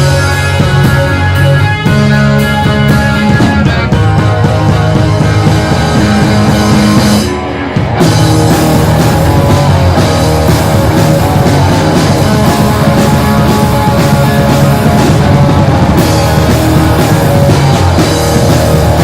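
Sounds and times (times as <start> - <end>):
bass guitar: 0.0 - 19.0
drums: 0.0 - 19.0
electric guitars: 0.0 - 19.0.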